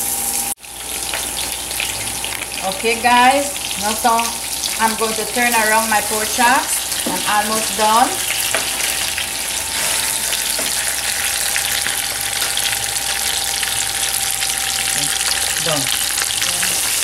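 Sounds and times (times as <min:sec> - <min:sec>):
meat sizzling in frying pan: 0:00.0 - 0:17.0.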